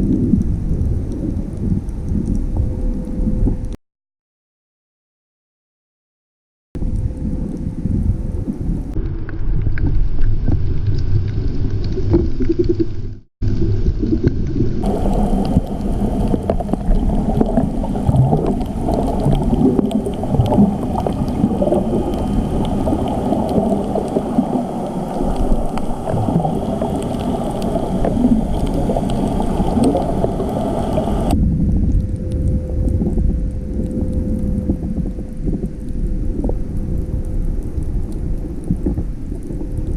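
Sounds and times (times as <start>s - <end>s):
muffled underwater rumble: 0.0s - 3.8s, 6.8s - 39.9s
water and air bubbles gurgling: 0.0s - 3.8s, 6.8s - 39.9s.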